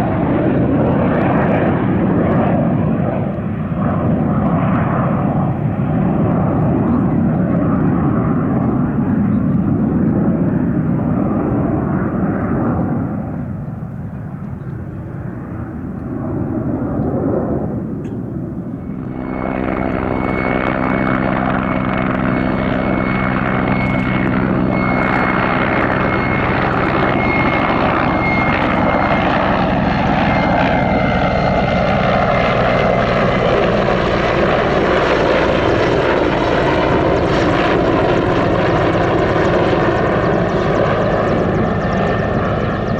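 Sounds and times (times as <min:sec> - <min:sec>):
high aircraft whine: 0:00.0 - 0:42.9
military aircraft flying past: 0:00.0 - 0:42.9.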